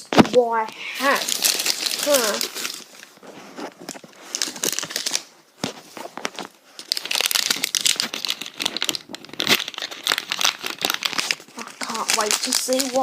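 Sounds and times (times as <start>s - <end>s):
plastic packet crinkling and tearing: 0.8s - 13.0s.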